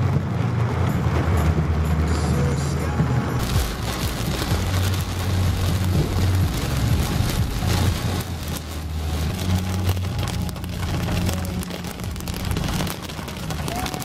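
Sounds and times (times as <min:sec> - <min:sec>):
heavy rain drumming on car roof: 0:00.0 - 0:14.0
low car rumble: 0:00.0 - 0:14.0.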